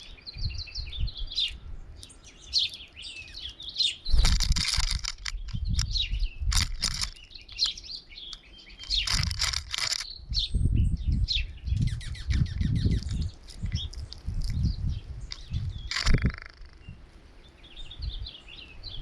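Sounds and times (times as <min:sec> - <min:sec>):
wind buffeting microphone: 0:00.0 - 0:02.6, 0:04.0 - 0:17.1, 0:17.7 - 0:19.0
songbirds chirping: 0:00.0 - 0:19.0.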